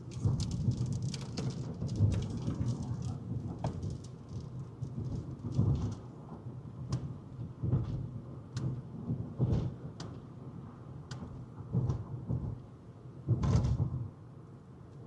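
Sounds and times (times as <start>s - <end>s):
wind and road noise inside car: 0.0s - 15.0s.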